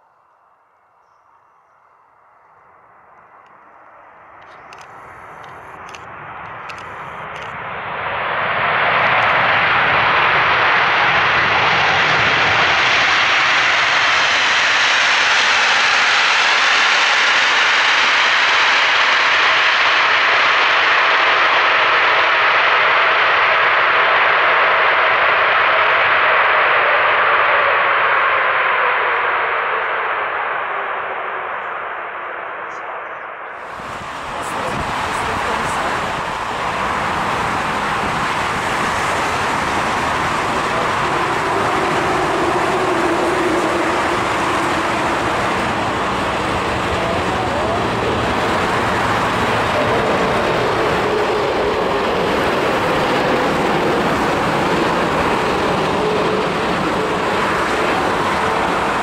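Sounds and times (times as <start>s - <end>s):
jet airliner engines at takeoff: 0.0s - 59.0s.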